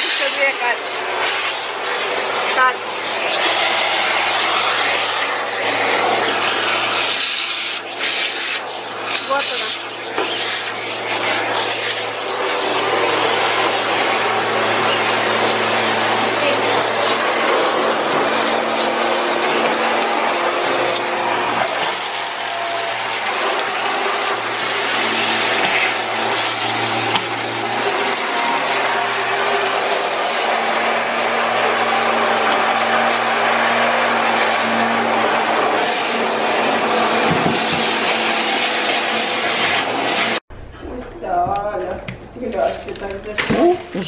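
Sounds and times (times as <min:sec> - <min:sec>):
vacuum cleaner running with whine: 0:00.0 - 0:40.4.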